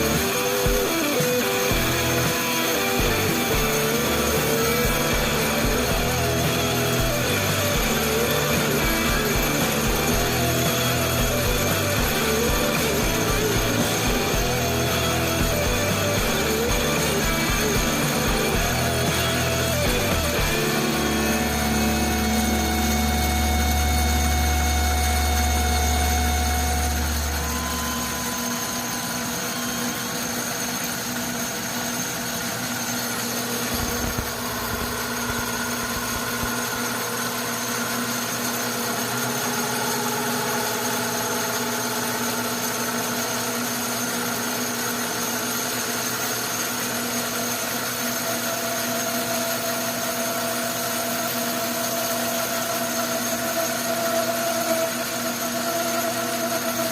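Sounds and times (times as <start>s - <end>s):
metal lathe whine: 0.0s - 56.9s.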